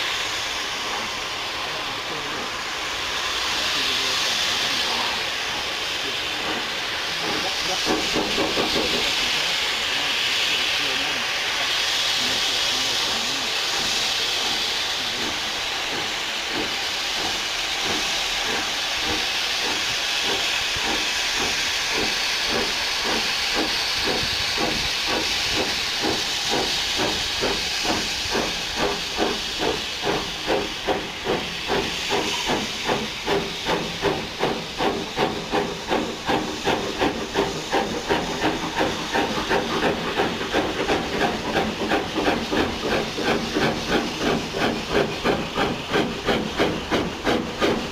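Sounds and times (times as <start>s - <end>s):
steam locomotive hissing: 0.0s - 47.9s
locomotive exhaust chuffs: 0.1s - 47.9s.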